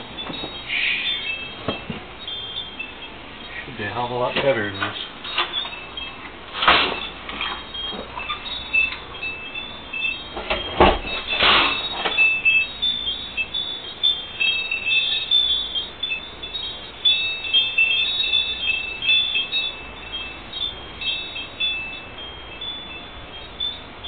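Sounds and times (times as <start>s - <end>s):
wind chime ringing: 0.0s - 24.0s.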